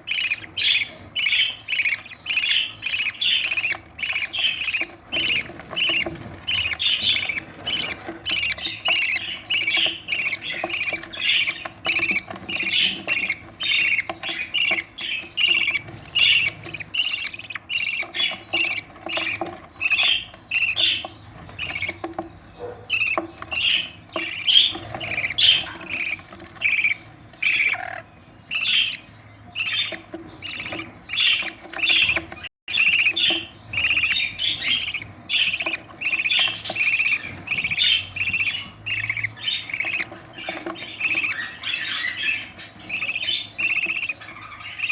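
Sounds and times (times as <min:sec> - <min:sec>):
budgerigar chicks squawking: 0:00.0 - 0:44.9.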